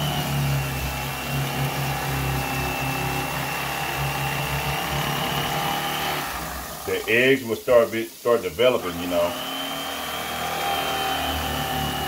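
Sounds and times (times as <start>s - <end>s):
electric fillet knife whining: 0.0s - 7.1s, 8.6s - 12.0s.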